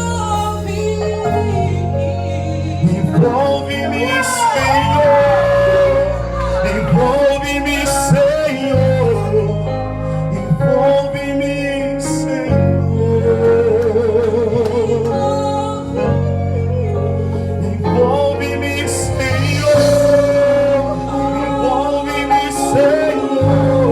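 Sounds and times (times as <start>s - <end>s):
person singing with vibrato: 0.0s - 23.9s
sustained low chords: 0.0s - 23.9s.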